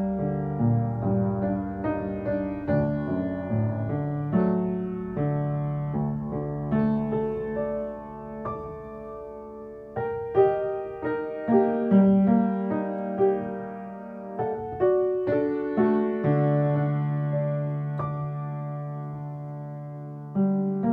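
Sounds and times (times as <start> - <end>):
slow piano music: 0.0 - 20.9.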